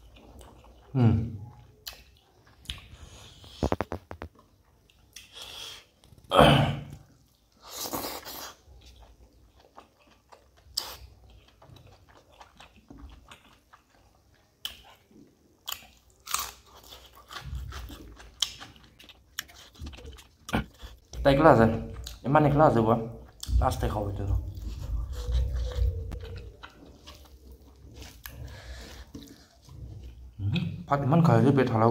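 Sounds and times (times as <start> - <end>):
person chewing and biting: 0.0 - 6.3, 7.6 - 22.2, 23.3 - 30.7.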